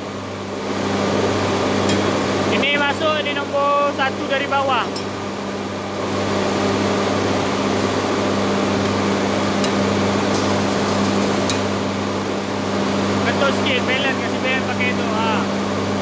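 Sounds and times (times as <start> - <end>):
motor or fan humming: 0.0 - 16.0.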